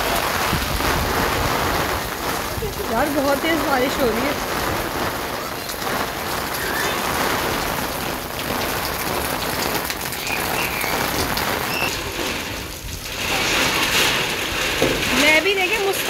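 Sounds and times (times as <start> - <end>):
heavy rain on concrete roof: 0.0 - 16.0.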